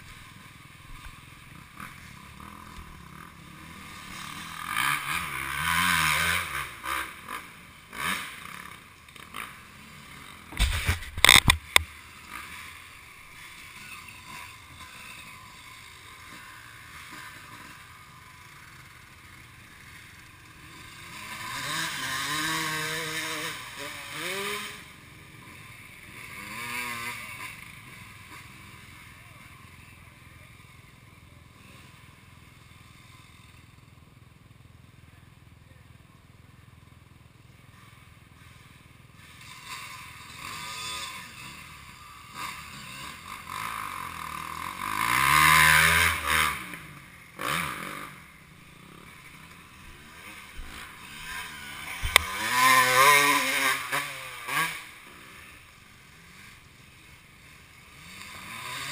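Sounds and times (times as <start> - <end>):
dirt bike engines revving: 0.0 - 58.9.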